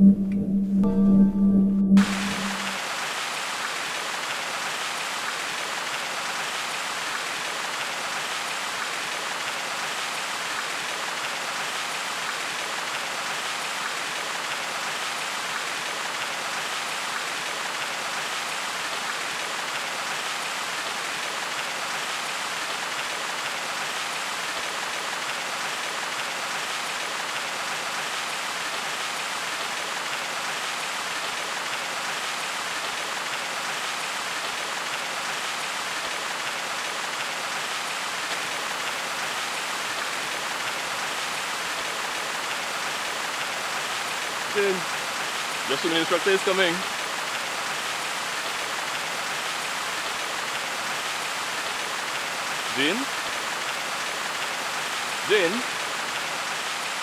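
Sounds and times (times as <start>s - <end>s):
waterfall splashing into pool: 2.0s - 57.0s.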